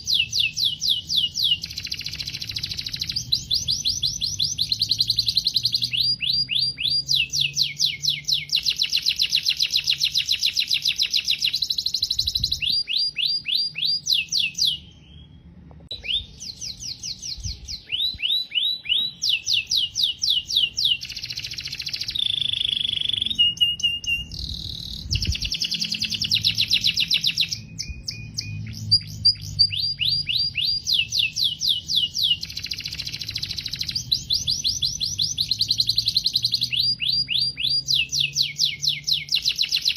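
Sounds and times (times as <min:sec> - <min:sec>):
canary held whistles: 0:00.0 - 0:39.9
canary trilling: 0:00.0 - 0:39.9.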